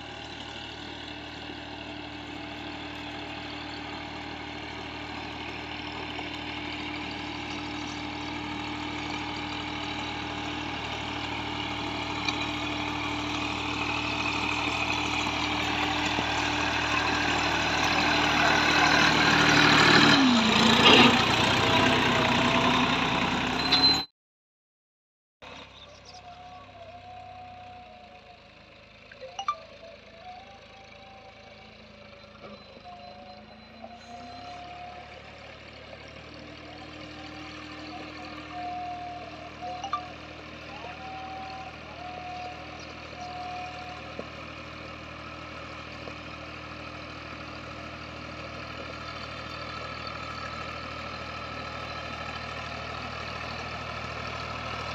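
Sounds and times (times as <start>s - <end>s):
tractor diesel engine running: 0.0s - 24.1s, 25.4s - 54.9s.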